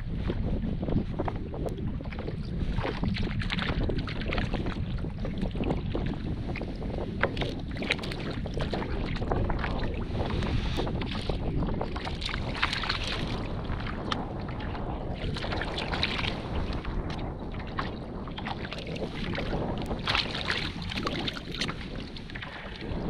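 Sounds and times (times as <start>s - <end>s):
water slapping against kayak: 0.0s - 23.0s
wind buffeting microphone: 0.0s - 23.0s.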